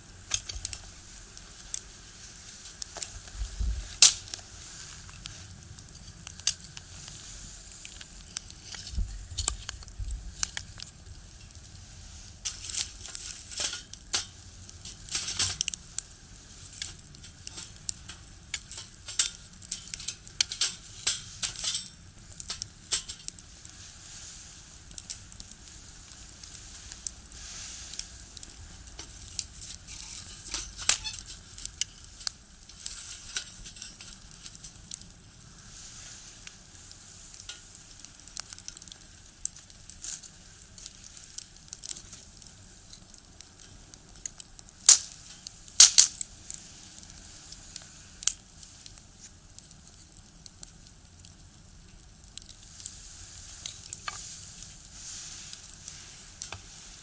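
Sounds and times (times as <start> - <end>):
wood fire crackling in stove: 0.0 - 57.0.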